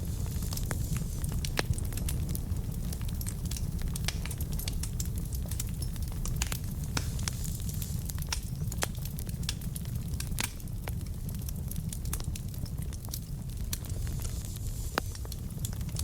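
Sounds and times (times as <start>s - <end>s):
logs burning in a fireplace: 0.0s - 16.0s.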